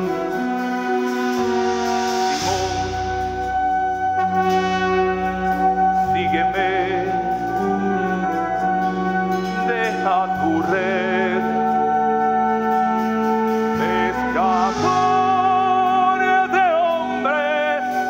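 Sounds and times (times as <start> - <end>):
wavering wind-like melody: 0.0 - 16.5.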